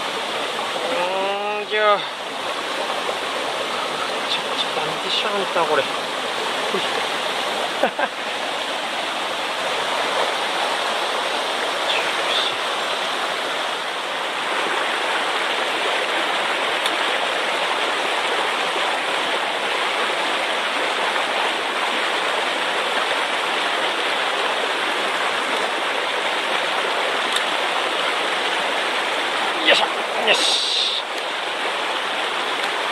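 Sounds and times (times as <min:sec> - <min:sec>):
stream rushing: 0:00.0 - 0:32.9.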